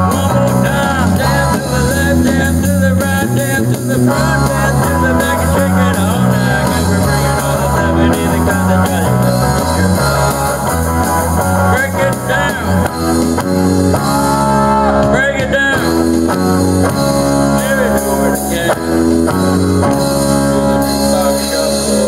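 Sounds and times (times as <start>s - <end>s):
live funk band playing: 0.0s - 22.0s.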